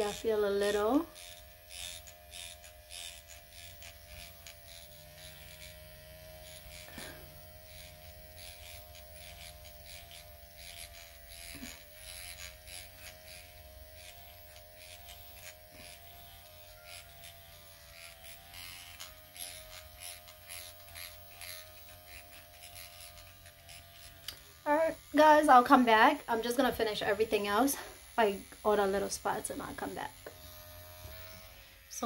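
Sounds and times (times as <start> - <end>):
microneedling pen buzzing: 0.0 - 32.0.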